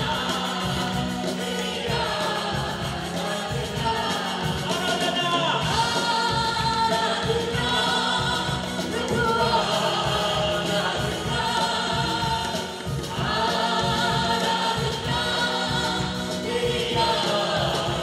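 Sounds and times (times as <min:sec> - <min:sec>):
hand drum beat: 0:00.0 - 0:18.0
women and girls singing gospel: 0:00.0 - 0:18.0.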